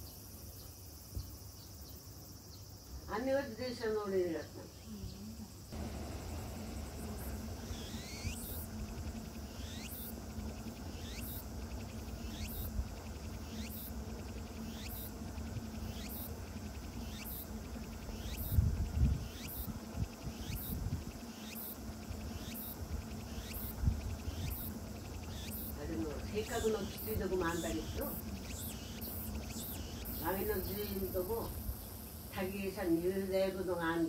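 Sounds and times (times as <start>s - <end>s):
insect chirping: 0.0s - 34.0s.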